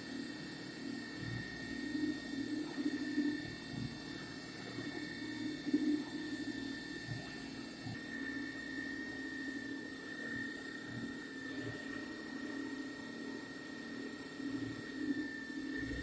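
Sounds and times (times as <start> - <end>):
milling machine high whine: 0.0 - 16.0.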